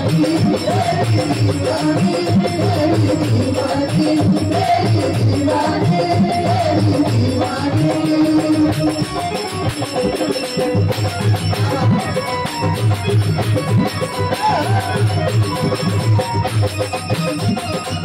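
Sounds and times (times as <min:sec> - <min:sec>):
electronic drum beat: 0:00.0 - 0:18.0
harmonium melody: 0:00.0 - 0:18.0.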